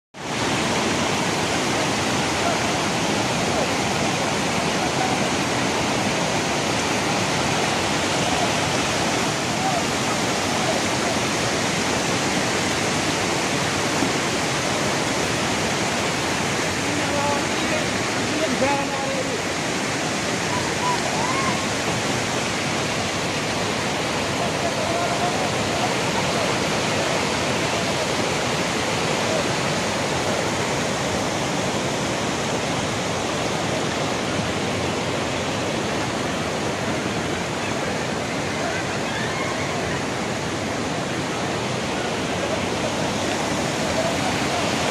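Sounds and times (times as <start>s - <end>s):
water rushing: 0.2s - 44.9s.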